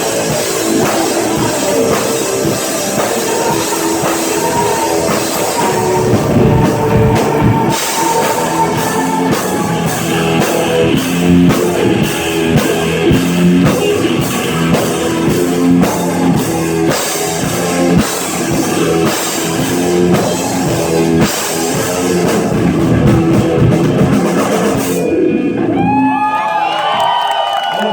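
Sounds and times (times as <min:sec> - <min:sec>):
drum kit: 0:00.0 - 0:26.3
rock band playing live: 0:00.0 - 0:26.5
electric guitar: 0:00.0 - 0:26.7.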